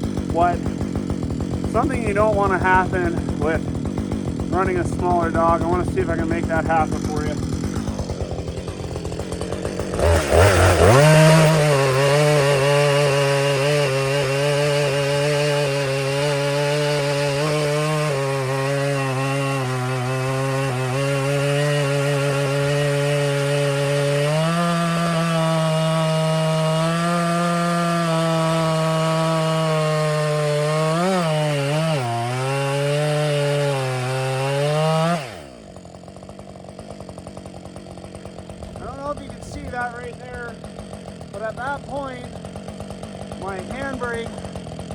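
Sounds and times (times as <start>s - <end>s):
chainsaw cutting through log: 0.0s - 44.9s.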